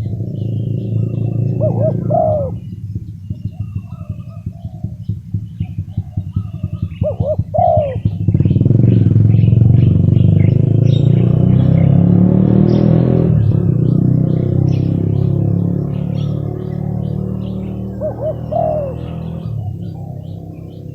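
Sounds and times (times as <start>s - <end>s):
dove cooing: 0.0s - 11.9s, 12.7s - 20.9s
motorcycle engine passing: 0.0s - 20.9s
small birds chirping: 0.0s - 20.9s.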